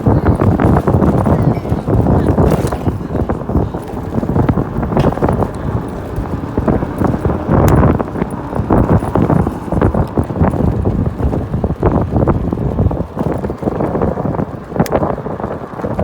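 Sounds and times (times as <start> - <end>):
scooter knocks and rattles: 0.0 - 16.0
wind buffeting microphone: 0.0 - 16.0.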